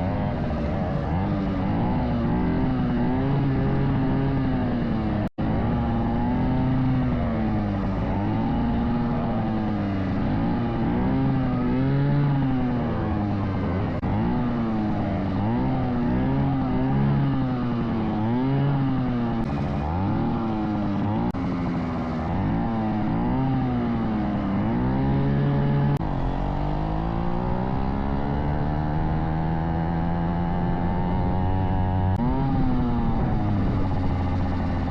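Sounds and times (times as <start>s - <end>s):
small engines revving: 0.0s - 34.9s.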